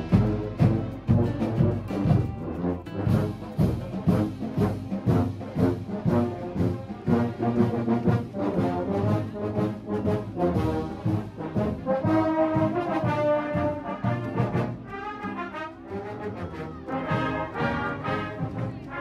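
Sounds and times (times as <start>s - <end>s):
marching band playing brass music: 0.0s - 19.0s.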